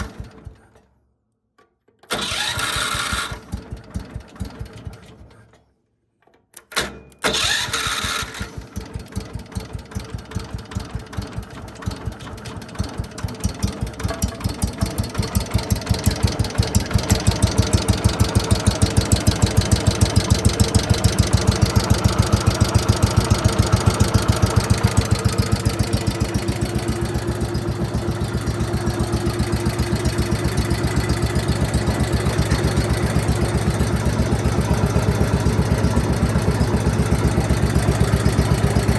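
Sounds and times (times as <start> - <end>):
lawn tractor engine starting and running: 0.0 - 0.9, 2.0 - 5.7, 6.3 - 38.9.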